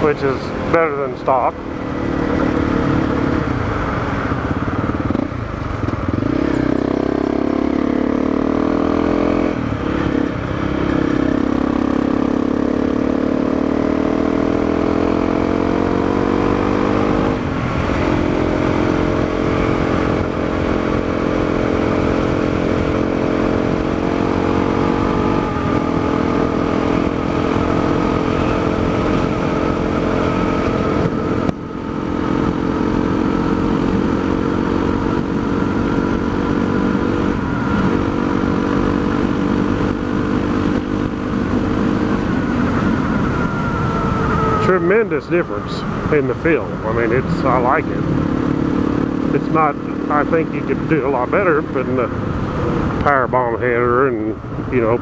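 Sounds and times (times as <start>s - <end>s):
motorcycle engine pulling uphill: 0.0s - 55.0s.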